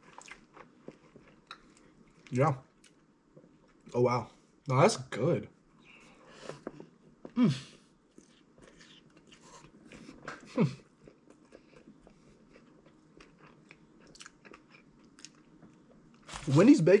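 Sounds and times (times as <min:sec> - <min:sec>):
person chewing food: 0:00.0 - 0:03.9, 0:05.8 - 0:16.5.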